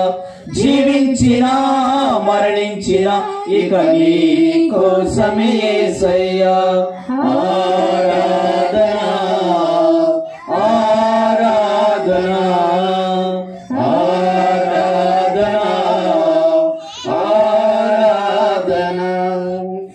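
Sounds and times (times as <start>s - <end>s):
voices singing a worship chant: 0.0s - 19.9s.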